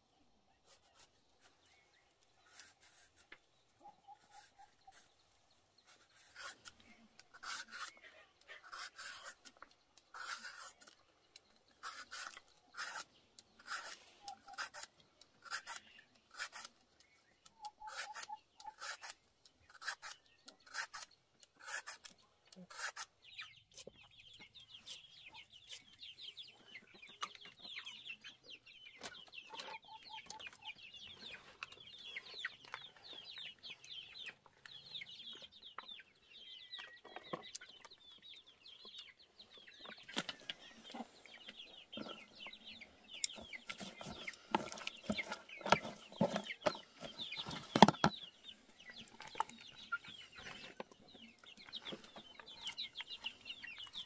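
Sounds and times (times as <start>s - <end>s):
chickens peeping and clucking: 0.0s - 54.0s.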